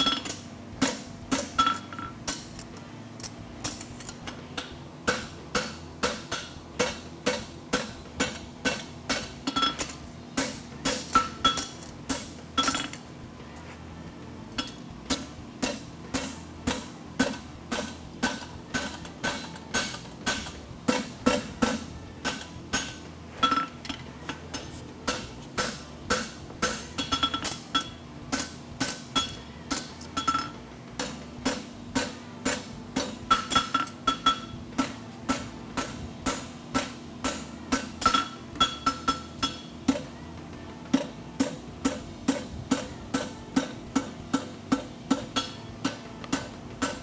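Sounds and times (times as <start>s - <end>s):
hammer striking steel on anvil: 0.0s - 2.6s, 3.6s - 13.0s, 14.6s - 40.1s, 40.9s - 47.0s.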